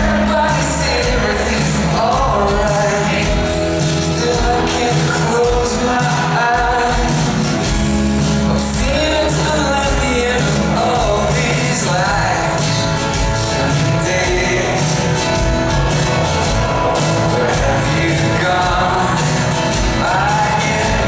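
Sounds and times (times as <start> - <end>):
live rock band playing: 0.0 - 21.0
male lead vocal singing: 0.0 - 21.0.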